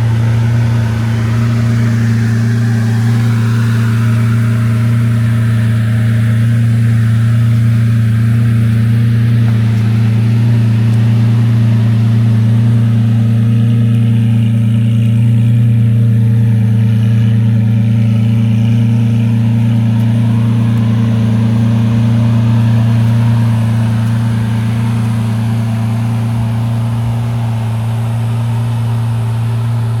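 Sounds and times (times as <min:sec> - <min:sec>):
car engine droning steadily: 0:00.0 - 0:30.0.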